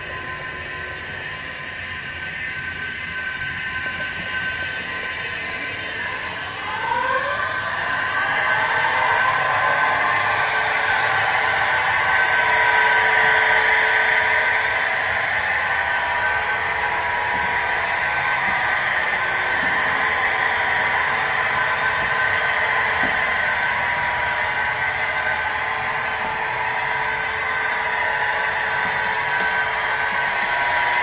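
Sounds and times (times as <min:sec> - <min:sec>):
wheels rolling on rails: 0:00.0 - 0:31.0
electric motor whine: 0:00.1 - 0:31.0.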